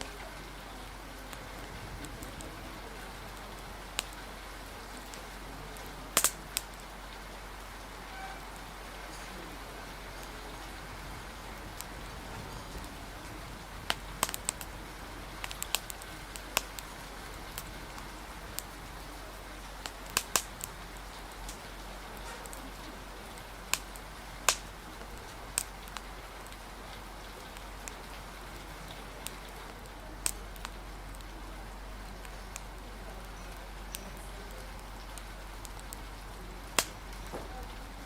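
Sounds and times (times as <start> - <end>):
rain hissing: 0.0 - 38.0
wood fire crackling and popping: 0.0 - 38.0.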